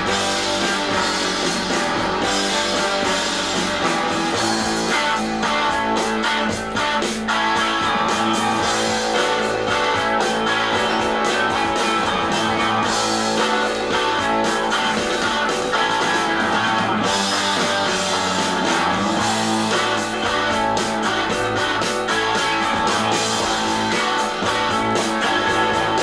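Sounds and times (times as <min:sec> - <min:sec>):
classic rock music: 0:00.0 - 0:26.0.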